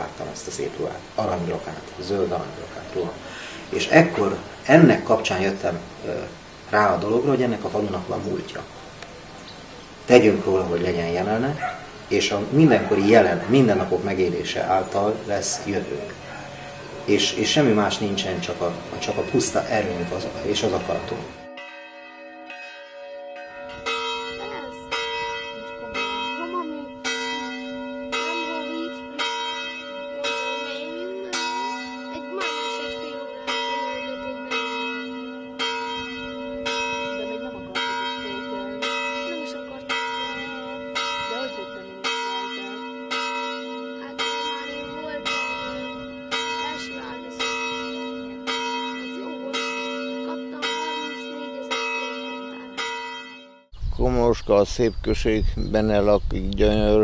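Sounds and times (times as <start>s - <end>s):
church bells ringing: 0.0s - 53.7s.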